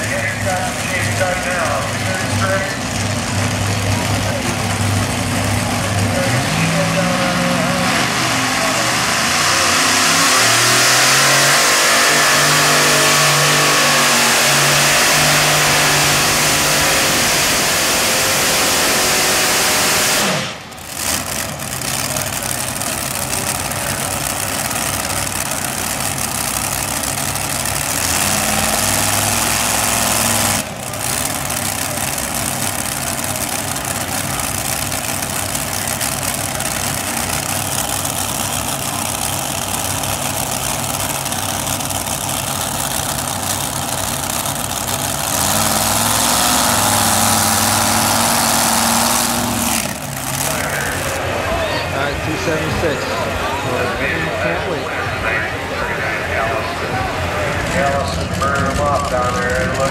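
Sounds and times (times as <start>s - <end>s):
tractor engines revving: 0.0s - 59.9s.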